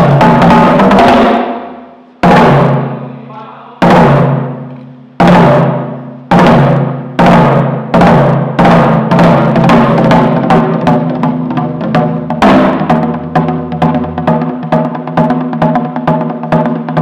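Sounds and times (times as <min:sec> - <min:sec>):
heavy drum strikes ringing: 0:00.0 - 0:17.0.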